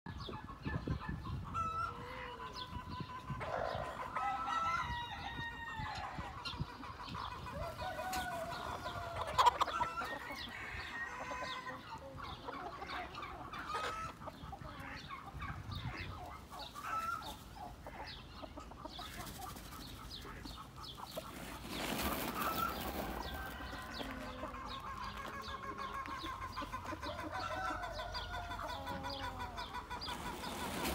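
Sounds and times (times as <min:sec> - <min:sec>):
chickens clucking: 0:00.1 - 0:30.9.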